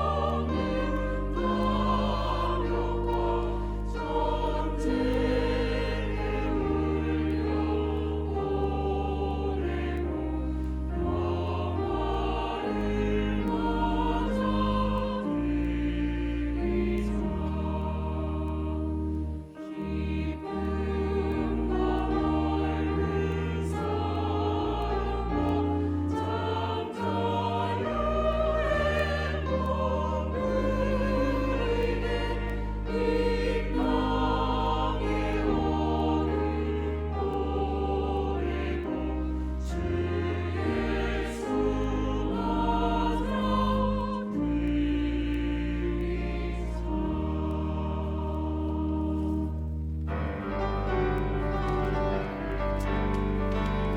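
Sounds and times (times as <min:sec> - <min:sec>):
choir singing a hymn: 0:00.0 - 0:53.9
instrumental accompaniment: 0:00.0 - 0:53.9.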